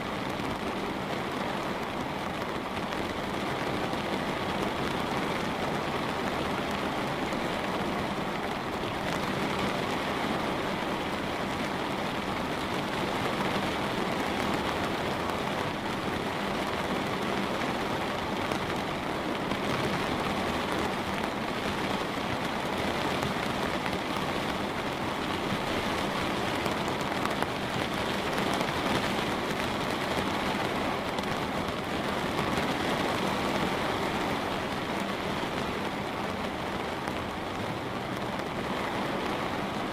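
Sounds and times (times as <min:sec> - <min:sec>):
light rain pattering on a window: 0:00.0 - 0:39.9.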